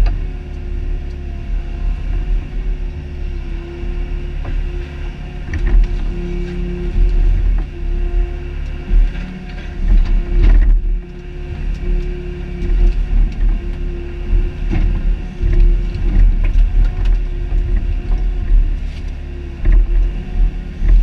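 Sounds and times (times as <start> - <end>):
excavator diesel engine rumble: 0.0 - 21.0.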